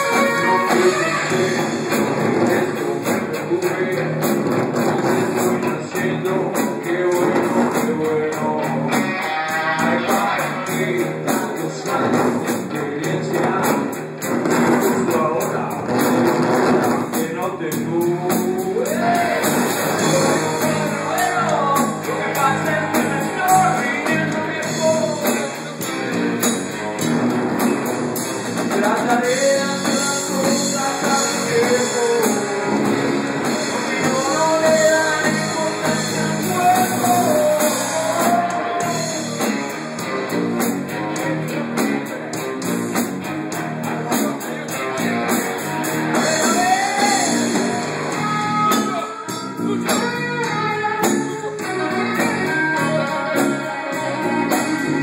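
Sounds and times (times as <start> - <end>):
man singing: 0.0 - 14.1, 14.8 - 16.1, 17.0 - 26.5, 28.6 - 40.0, 43.6 - 45.1, 46.0 - 55.0
live rock band playing: 0.0 - 55.0.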